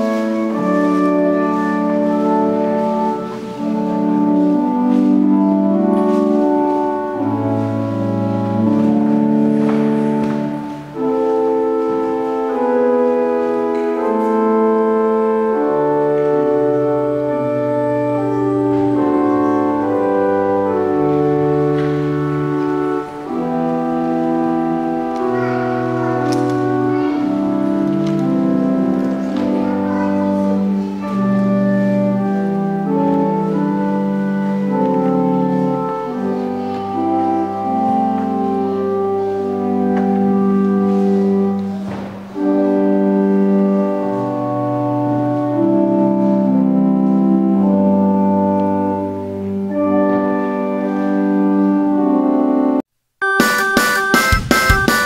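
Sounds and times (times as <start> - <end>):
organ chords: 0.0 - 55.0.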